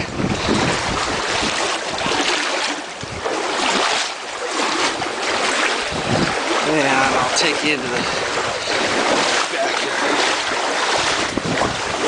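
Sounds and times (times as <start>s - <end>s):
floodwater sloshing: 0.0s - 12.0s.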